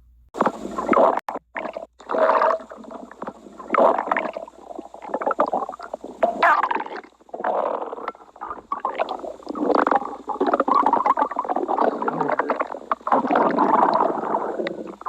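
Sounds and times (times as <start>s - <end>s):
stomach growling and gurgling: 0.4s - 15.0s.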